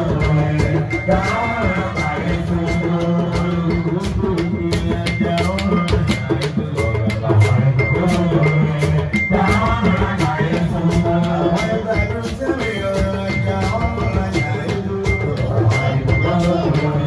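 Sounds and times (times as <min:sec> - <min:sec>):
fast drums and percussion: 0:00.0 - 0:17.0
high ringing tone: 0:00.0 - 0:17.0
live band music: 0:00.0 - 0:17.0.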